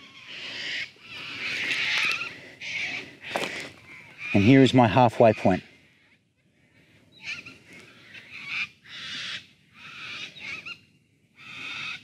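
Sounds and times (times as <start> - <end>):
short bird calls: 0.0 - 12.0.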